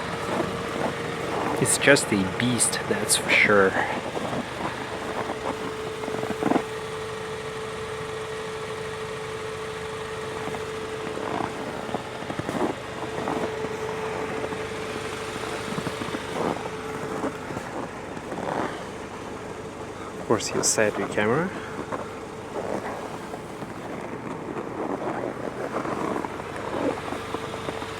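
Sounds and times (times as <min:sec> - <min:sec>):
constant tone: 0:00.0 - 0:27.9
engine idling hum: 0:00.0 - 0:27.9.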